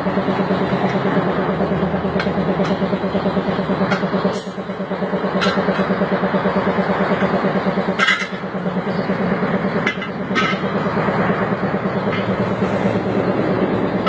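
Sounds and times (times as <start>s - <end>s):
motor running with fast pulse: 0.0s - 14.0s.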